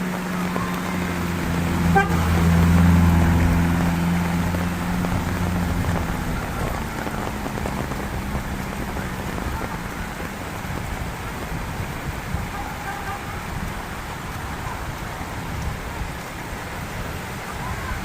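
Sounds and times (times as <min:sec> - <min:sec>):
heavy rain: 0:00.0 - 0:18.0
vehicle engine passing: 0:00.0 - 0:18.0.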